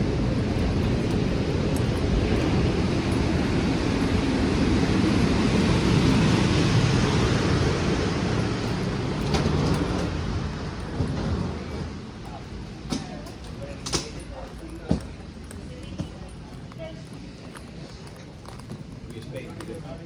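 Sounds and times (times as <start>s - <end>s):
vehicle rumble and hiss: 0.0s - 20.0s.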